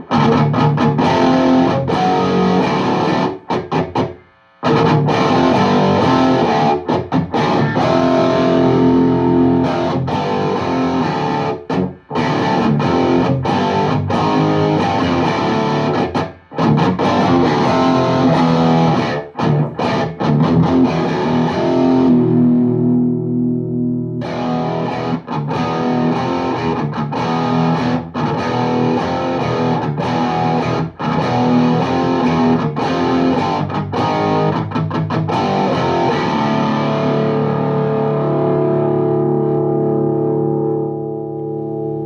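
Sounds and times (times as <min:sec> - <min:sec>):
distorted electric guitar: 0:00.0 - 0:42.0.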